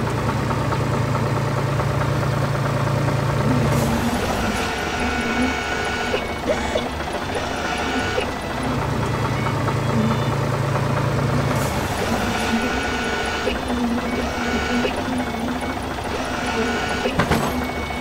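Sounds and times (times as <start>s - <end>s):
cartoon tractor engine: 0.0s - 18.0s
held mechanical tones: 3.5s - 18.0s.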